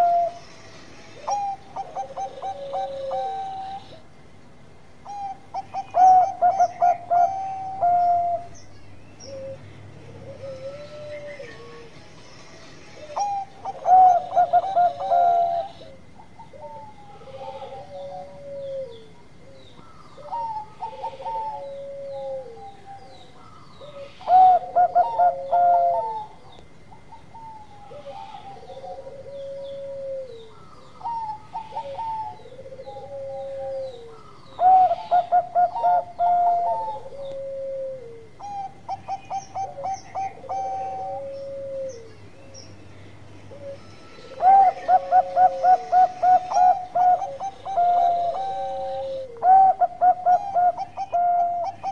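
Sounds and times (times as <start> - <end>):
dove trilled cooing: 0.0 - 0.4, 1.2 - 4.1, 5.0 - 8.6, 9.2 - 11.9, 13.0 - 42.7, 43.4 - 51.9.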